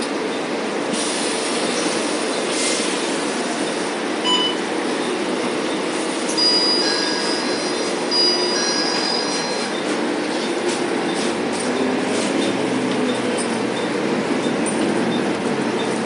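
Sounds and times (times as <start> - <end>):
bus diesel engine rush: 0.0 - 16.0
road noise: 0.0 - 16.0.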